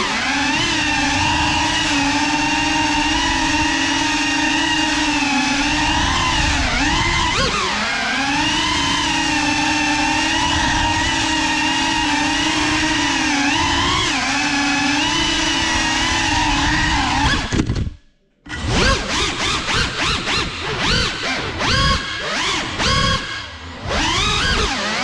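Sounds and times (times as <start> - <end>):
drone motors whining: 0.0 - 17.9, 18.5 - 25.0.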